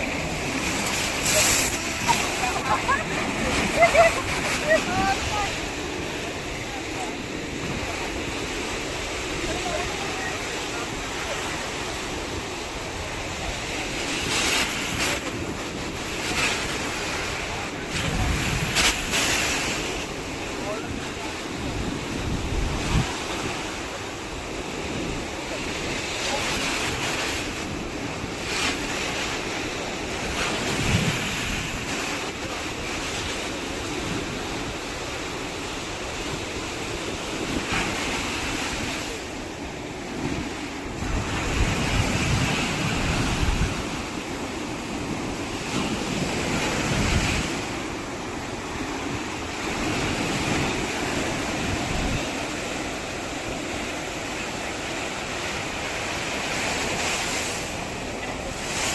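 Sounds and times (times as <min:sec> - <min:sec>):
ocean surf washing ashore: 0:00.0 - 0:58.9
wind buffeting microphone: 0:00.0 - 0:58.9.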